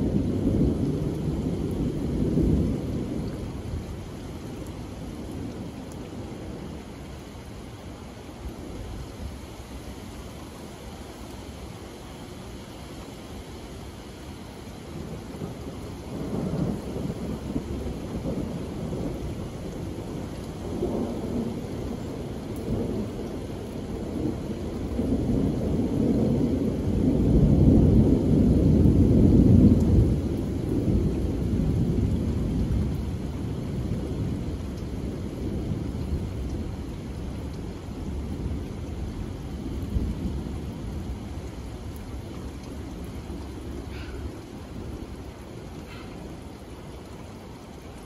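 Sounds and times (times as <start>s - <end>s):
heavy rain on wooden deck: 0.0s - 48.0s.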